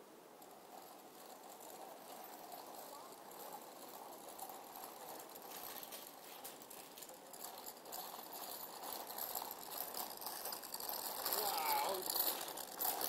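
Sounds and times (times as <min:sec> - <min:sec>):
scooter wheels rattling on asphalt: 0:00.0 - 0:13.0.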